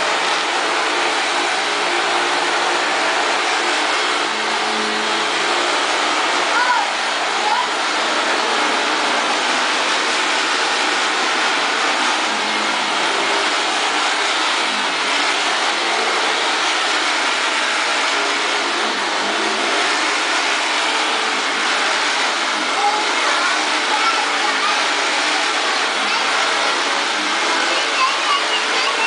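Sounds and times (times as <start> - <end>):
vacuum cleaner running over rug: 0.0 - 29.0.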